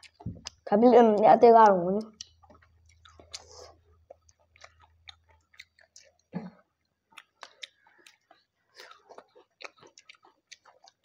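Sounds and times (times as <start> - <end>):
people chewing and lip-smacking: 0.0 - 1.3, 2.0 - 11.0.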